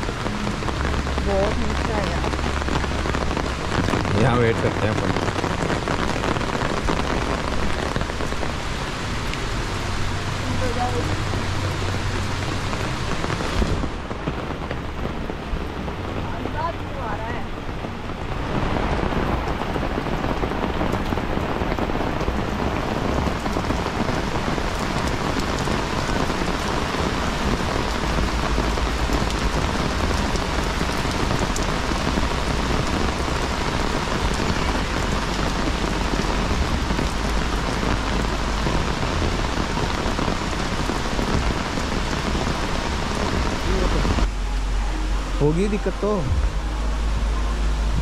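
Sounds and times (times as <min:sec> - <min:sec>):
rain pouring: 0:00.0 - 0:48.0.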